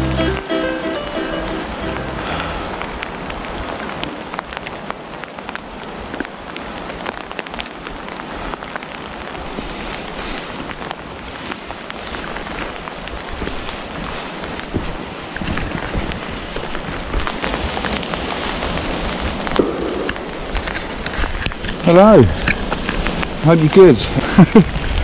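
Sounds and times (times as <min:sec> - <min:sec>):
rain falling through woodland: 0:00.0 - 0:25.0.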